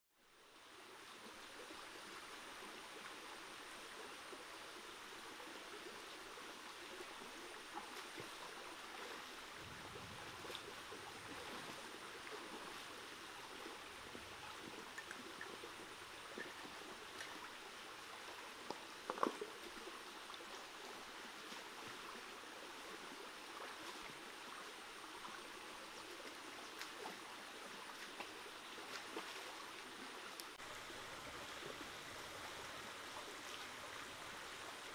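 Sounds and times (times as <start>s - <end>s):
stream running over rocks: 0.2s - 34.9s.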